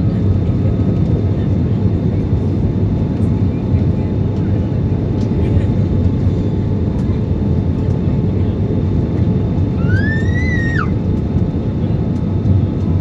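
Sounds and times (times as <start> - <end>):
airliner rumble while landing: 0.0 - 13.0.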